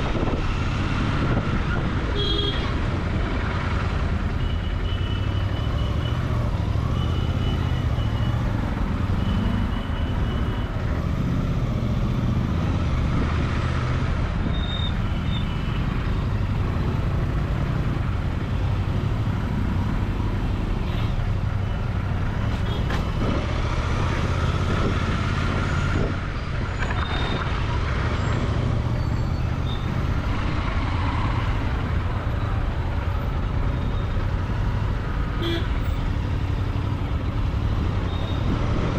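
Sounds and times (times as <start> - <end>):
traffic noise: 0.0 - 38.9.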